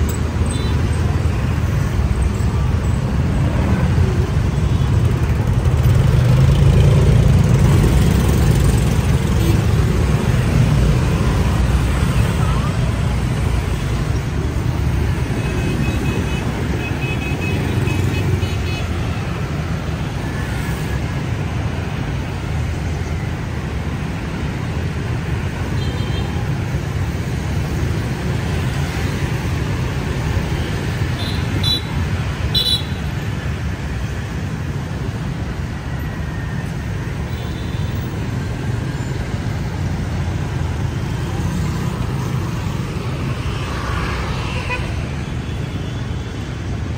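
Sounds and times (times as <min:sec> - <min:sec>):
motorbikes and scooters passing: 0:00.0 - 0:46.9.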